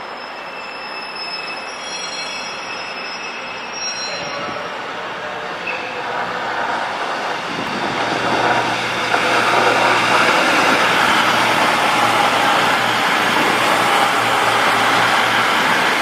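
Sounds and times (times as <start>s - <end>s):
train running: 0.0s - 16.0s.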